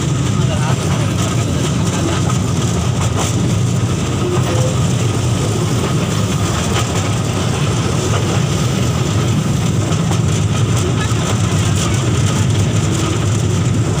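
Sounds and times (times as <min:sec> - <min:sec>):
toy train rumbling on track: 0:00.0 - 0:14.0.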